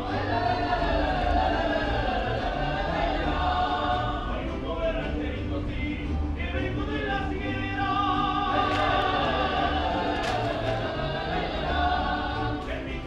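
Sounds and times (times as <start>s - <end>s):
voices singing together: 0.0s - 13.0s.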